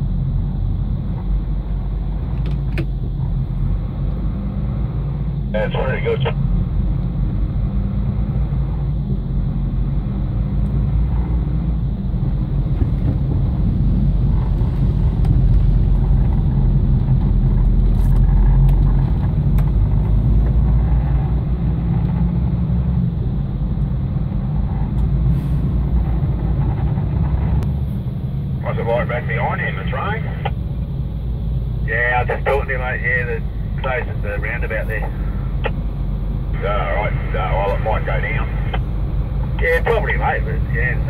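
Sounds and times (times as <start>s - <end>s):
truck engine and tyres rumbling: 0.0s - 41.0s.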